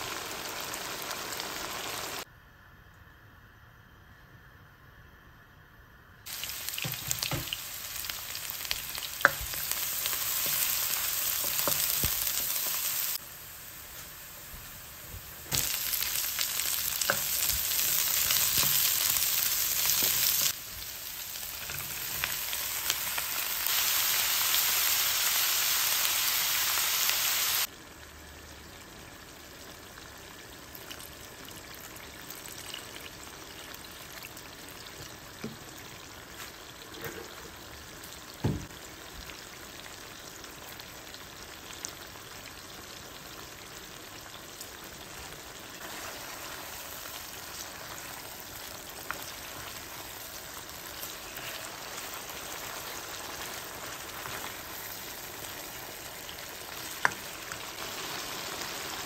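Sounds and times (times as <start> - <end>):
food sizzling in oil: 0.0 - 2.3, 6.3 - 28.1, 28.7 - 59.0.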